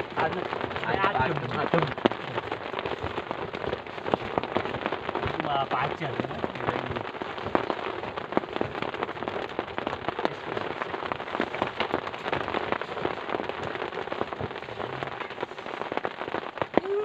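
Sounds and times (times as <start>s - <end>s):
heavy rain hissing: 0.0s - 17.0s
raindrops hitting a surface: 0.0s - 17.0s.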